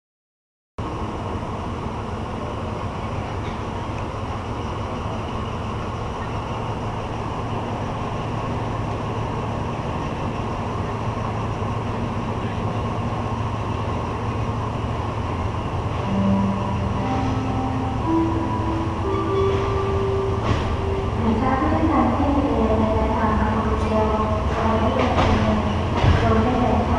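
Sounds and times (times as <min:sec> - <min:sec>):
diesel train rumbling: 0:00.8 - 0:26.9.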